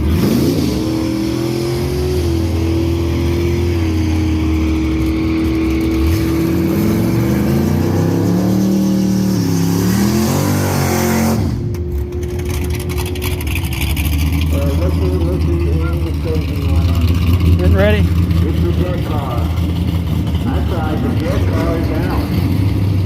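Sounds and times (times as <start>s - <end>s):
engine pitch rising: 0.0s - 23.0s
race car engines running: 0.0s - 23.0s.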